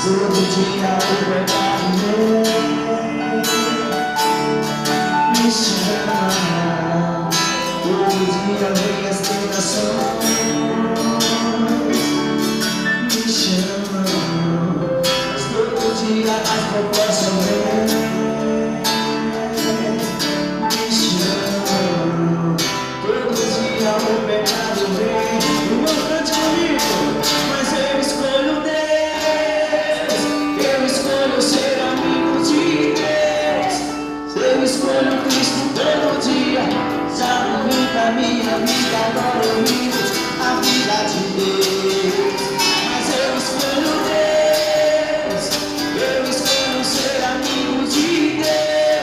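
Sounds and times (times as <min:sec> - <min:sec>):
guitar: 0:00.0 - 0:49.0
worship band playing: 0:00.0 - 0:49.0.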